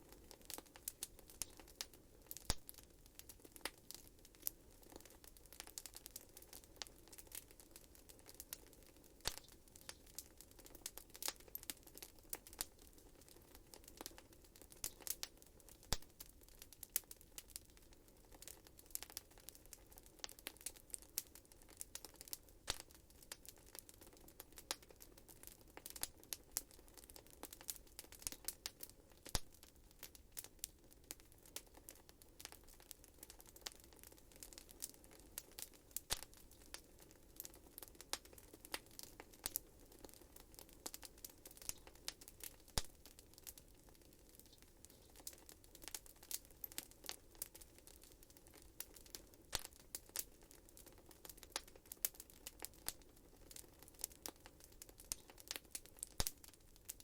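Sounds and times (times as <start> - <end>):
wood fire crackling: 0.0 - 57.0
sharp pops and snaps: 0.1 - 57.0.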